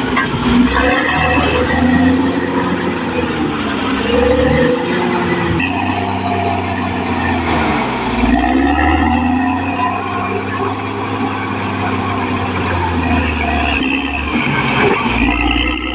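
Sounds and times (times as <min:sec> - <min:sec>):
bulldozer diesel engine revving: 0:00.0 - 0:15.9.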